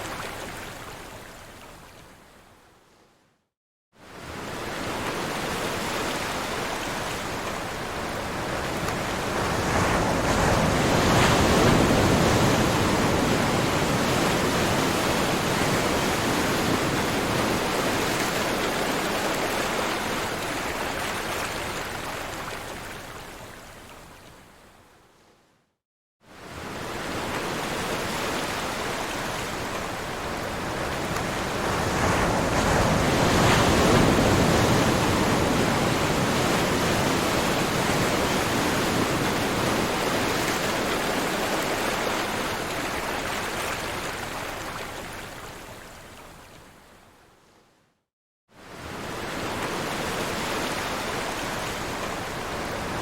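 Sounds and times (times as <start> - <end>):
ocean waves washing on shore: 4.0 - 24.1, 26.3 - 46.9, 48.6 - 53.0.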